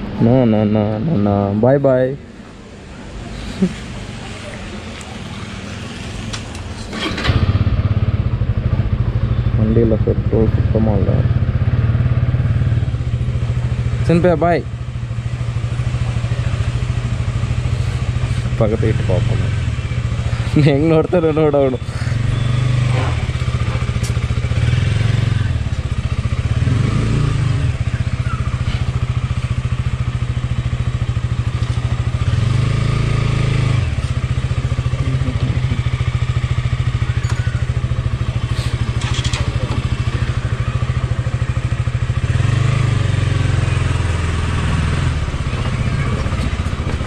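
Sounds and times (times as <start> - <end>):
motorcycle engine idling and revving: 0.0 - 47.0.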